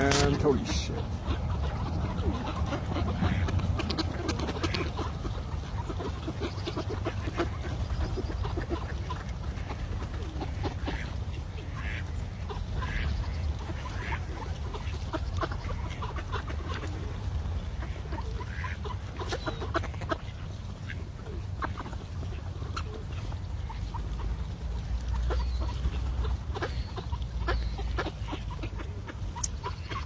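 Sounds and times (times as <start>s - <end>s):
ducks clucking: 0.0s - 30.0s
steady low rumble: 0.0s - 30.0s.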